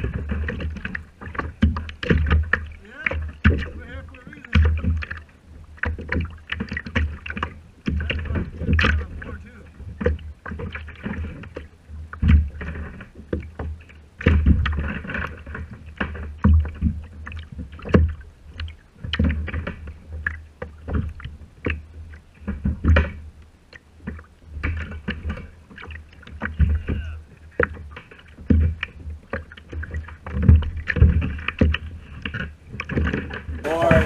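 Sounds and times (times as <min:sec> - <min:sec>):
water slapping kayak hull: 0:00.0 - 0:34.0.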